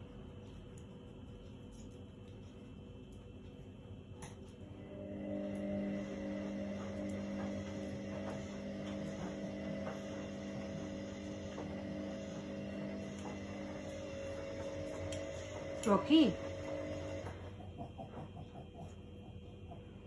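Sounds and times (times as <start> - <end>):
washing machine drum hum: 3.3 - 20.0.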